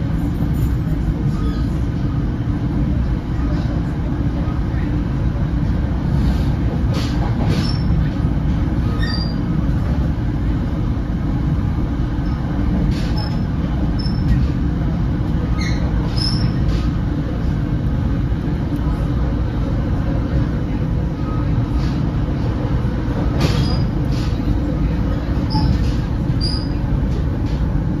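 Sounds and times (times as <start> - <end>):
train coach rumble: 0.0 - 28.0.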